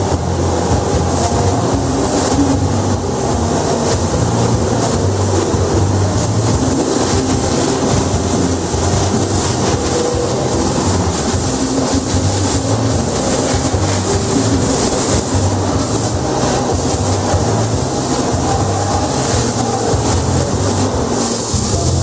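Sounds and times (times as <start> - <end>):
hiss: 0.0 - 22.0
mechanical rumble with hum: 0.0 - 22.0.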